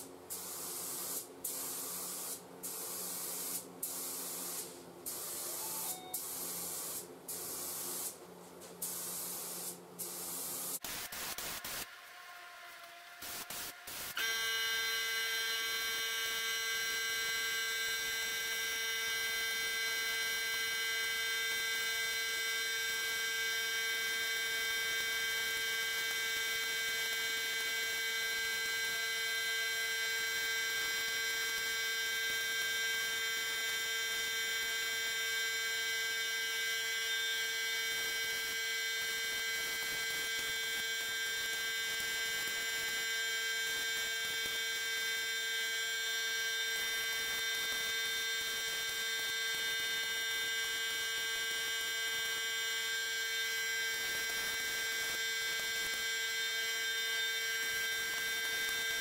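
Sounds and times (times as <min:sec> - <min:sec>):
motor hum with high whine: 0:09.7 - 0:59.0.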